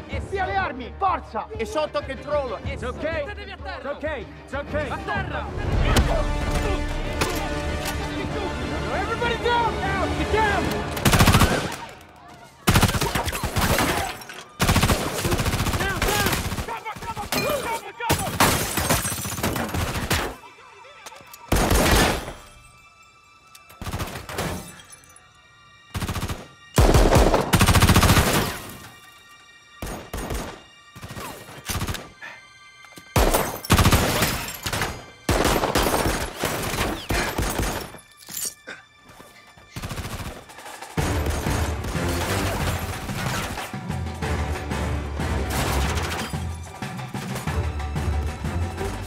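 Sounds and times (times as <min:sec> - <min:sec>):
tense music score: 0:00.0 - 0:49.0.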